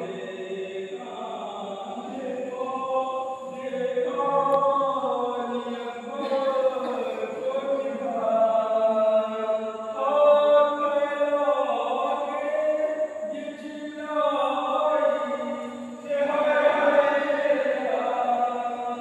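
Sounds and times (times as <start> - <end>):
voices chanting a lament: 0.0 - 19.0.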